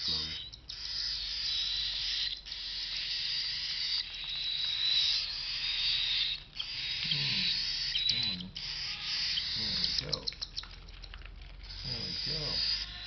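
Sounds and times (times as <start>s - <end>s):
cockatiel chick begging call: 0.0s - 13.0s.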